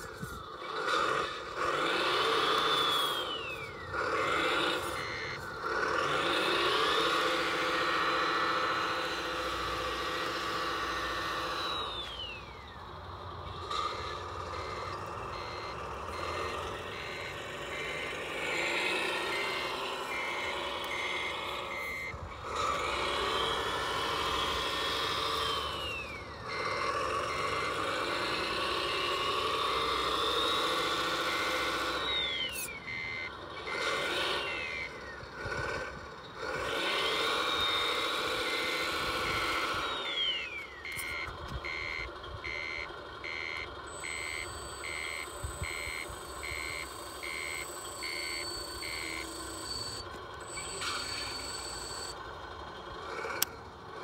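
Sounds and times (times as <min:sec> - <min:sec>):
electric motor whining: 0:00.0 - 0:52.3
reversing beeper: 0:02.5 - 0:12.8, 0:13.6 - 0:35.3, 0:36.8 - 0:52.2.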